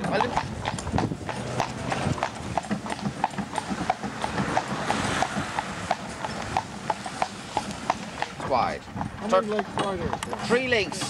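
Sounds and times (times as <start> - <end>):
horse hooves on pavement: 0.0 - 11.0.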